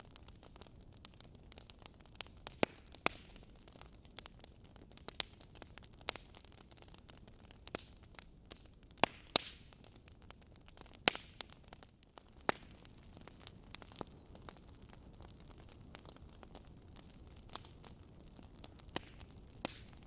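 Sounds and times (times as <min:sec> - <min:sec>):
faint steady hiss: 0:00.0 - 0:20.0
wood logs crackling in a fireplace: 0:00.0 - 0:20.0.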